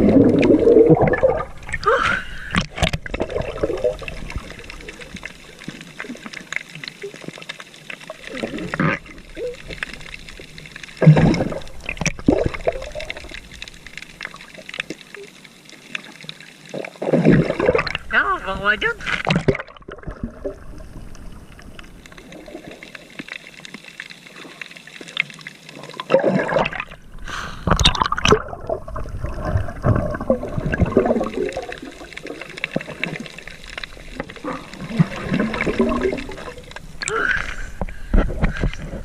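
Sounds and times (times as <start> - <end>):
water sloshing and splashing: 0.0 - 39.0.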